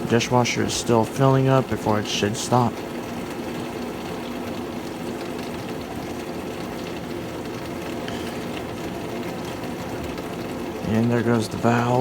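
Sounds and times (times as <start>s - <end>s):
constant hum: 0.0s - 12.0s
water running into dishwasher: 0.0s - 12.0s.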